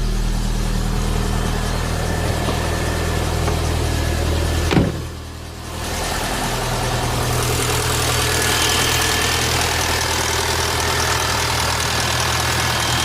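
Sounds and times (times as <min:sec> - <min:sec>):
car engine idling: 0:00.0 - 0:13.0
noise from cylinder head: 0:00.0 - 0:13.0.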